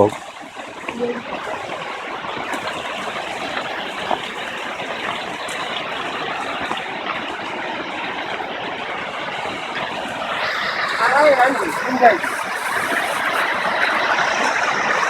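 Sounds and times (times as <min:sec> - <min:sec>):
rushing falling water: 0:00.0 - 0:15.0.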